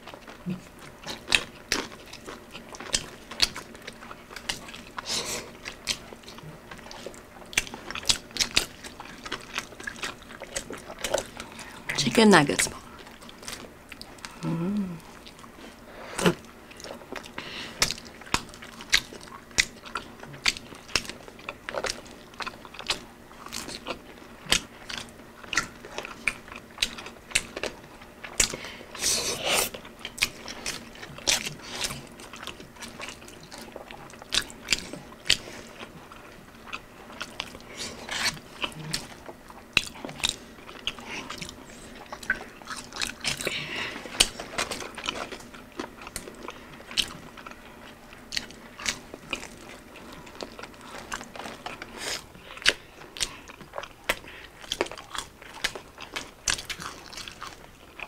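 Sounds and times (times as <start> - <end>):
crunchy bites and chewing: 0.0 - 12.0, 12.7 - 58.0.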